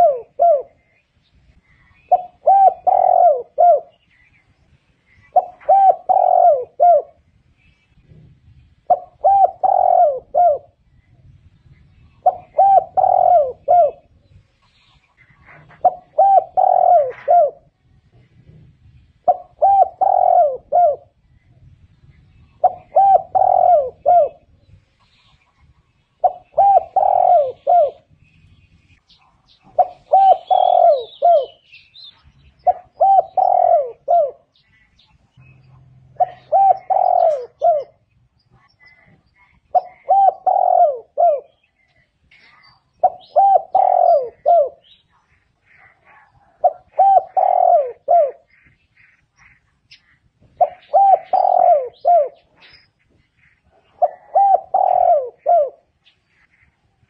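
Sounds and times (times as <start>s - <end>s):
dove cooing: 0.0s - 4.1s, 5.1s - 7.3s, 8.0s - 10.8s, 11.8s - 14.3s, 15.2s - 21.4s, 22.4s - 24.6s, 26.2s - 28.2s, 29.5s - 31.7s, 32.5s - 35.1s, 35.7s - 48.8s, 50.4s - 56.6s
small birds chirping: 0.0s - 57.0s.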